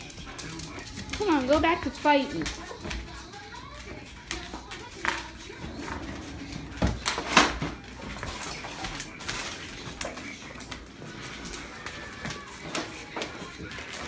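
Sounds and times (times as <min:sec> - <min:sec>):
dogs scuffling: 0:00.0 - 0:14.0.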